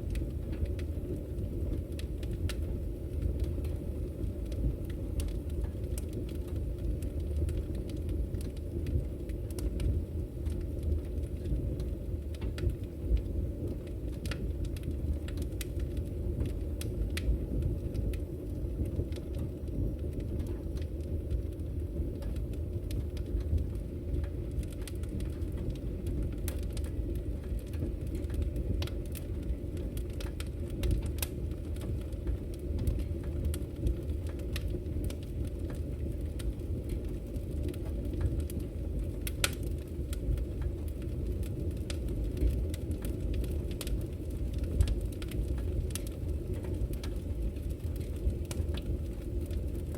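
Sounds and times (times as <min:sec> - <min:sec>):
firewood crackling and popping: 0:00.0 - 0:49.9
low rumble of flames: 0:00.0 - 0:49.9.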